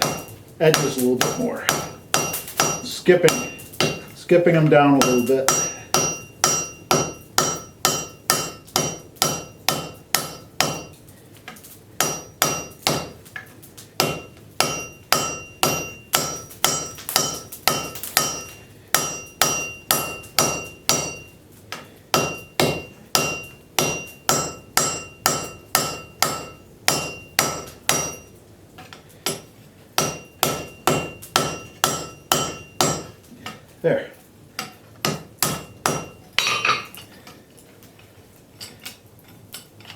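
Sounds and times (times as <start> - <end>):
hammer striking metal on anvil: 0.0 - 11.0, 12.0 - 13.2, 14.0 - 33.6, 34.6 - 37.4.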